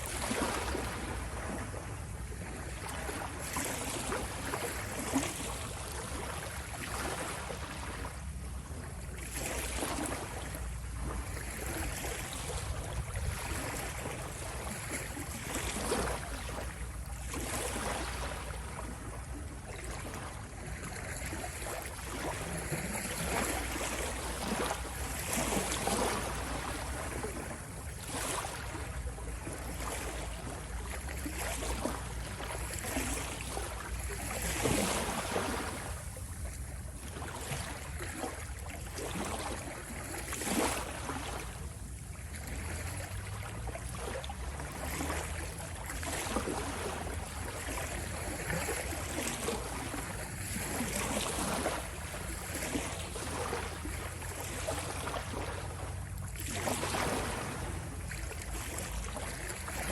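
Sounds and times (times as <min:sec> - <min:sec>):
ocean waves splashing: 0:00.0 - 0:59.9.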